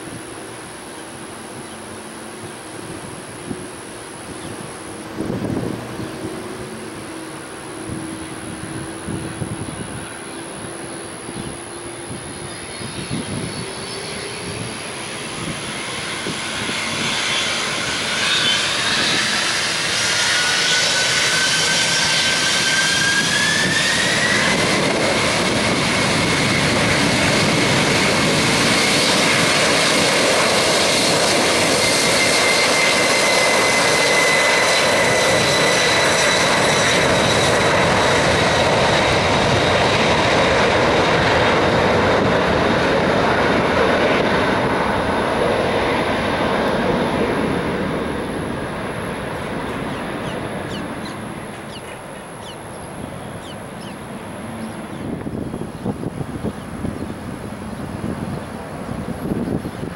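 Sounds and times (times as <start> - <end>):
jet engine whine rising: 0.0 - 59.9
loud jet engine roar: 0.0 - 59.9.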